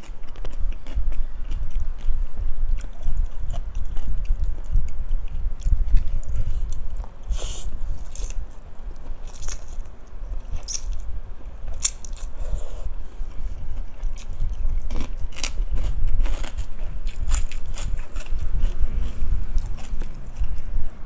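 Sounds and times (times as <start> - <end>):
chewing crunchy food: 0.0 - 11.1, 11.7 - 21.0.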